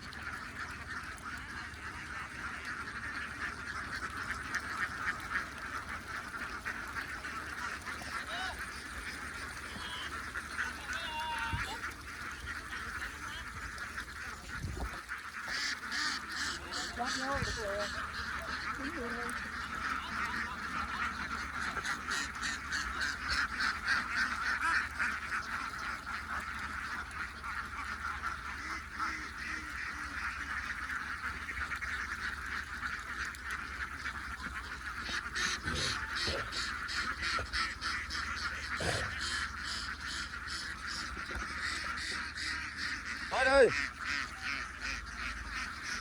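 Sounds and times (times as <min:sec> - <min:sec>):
flock of ducks quacking: 0:00.0 - 0:46.0.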